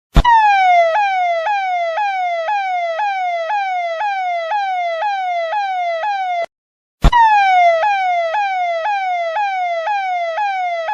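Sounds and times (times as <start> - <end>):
electronic police siren wailing: 0.2 - 10.9.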